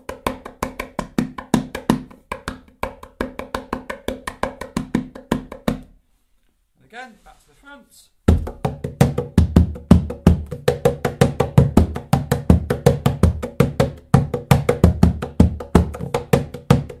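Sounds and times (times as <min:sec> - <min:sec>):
cajon bass tones and slaps: 0:00.0 - 0:05.9, 0:08.3 - 0:17.0.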